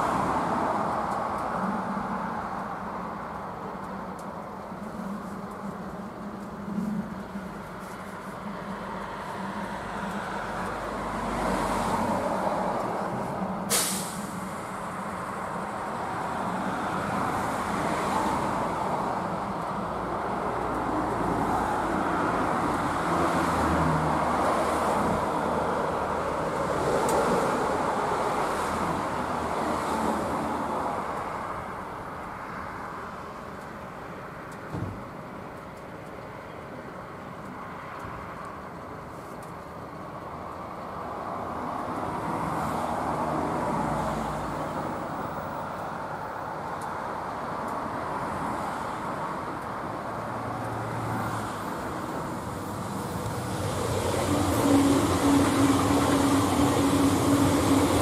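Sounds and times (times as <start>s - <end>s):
rumbling vehicle noise: 0.0s - 58.0s
train approaching on track: 0.0s - 58.0s.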